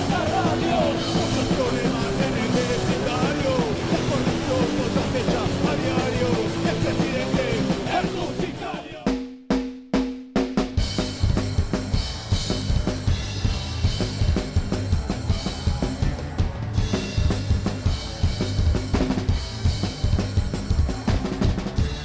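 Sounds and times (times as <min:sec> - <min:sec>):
bass line: 0:00.0 - 0:09.0, 0:10.8 - 0:22.0
punk rock band playing: 0:00.0 - 0:09.3, 0:10.6 - 0:22.0
drum kit: 0:00.0 - 0:22.0.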